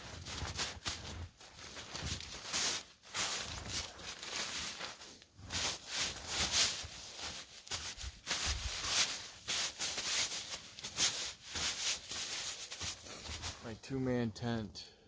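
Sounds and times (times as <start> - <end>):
ground sheet rustling: 0.0 - 13.7.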